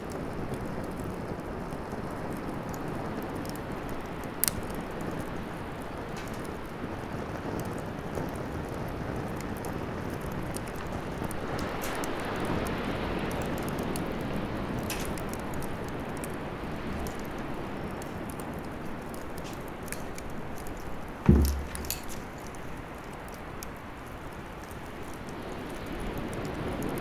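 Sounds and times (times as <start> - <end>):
fire crackles and pops: 0.0 - 27.0
rush of fire flame: 0.1 - 23.2.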